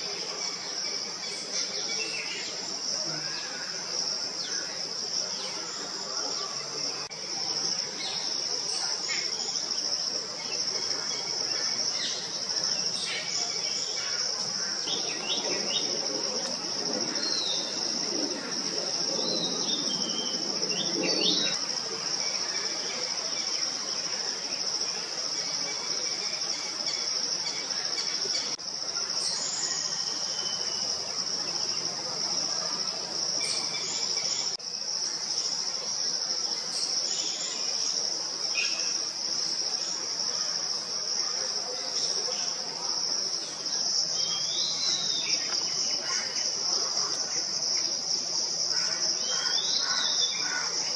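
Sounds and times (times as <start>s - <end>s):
high-pitched insect drone: 0.1s - 50.9s.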